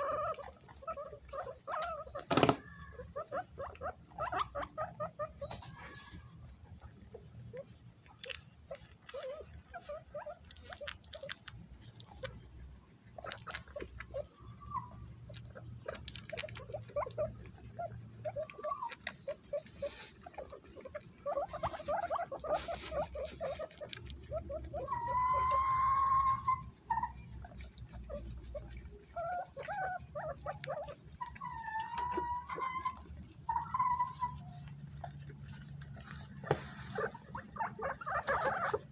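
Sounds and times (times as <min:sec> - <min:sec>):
guinea pig high squeal: 0:00.0 - 0:12.4, 0:13.2 - 0:38.9
guinea pigs squeaking: 0:00.0 - 0:38.9.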